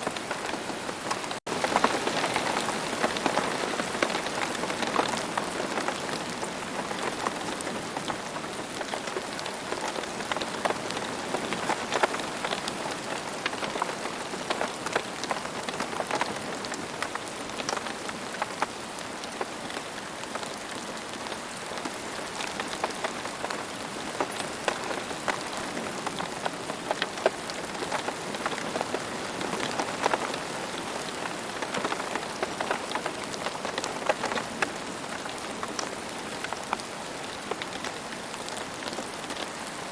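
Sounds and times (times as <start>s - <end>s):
rain drops on hard surface: 0.0s - 39.9s.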